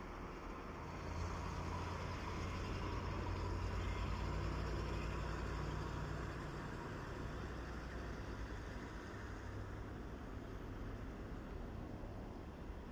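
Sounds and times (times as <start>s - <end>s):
truck engine driving past: 0.6s - 11.1s.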